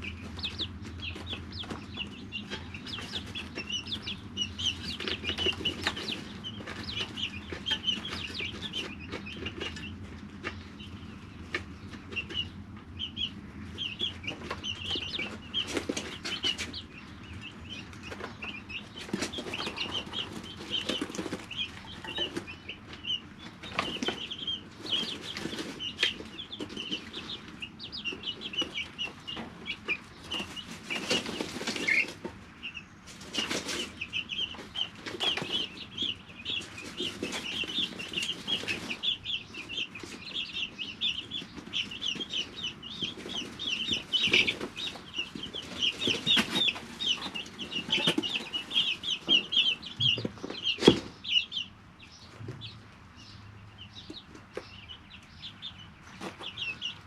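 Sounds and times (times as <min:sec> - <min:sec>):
chicks peeping: 0:00.0 - 0:57.0
rustling and wing-flapping: 0:00.1 - 0:10.8, 0:13.7 - 0:16.9, 0:17.7 - 0:51.2.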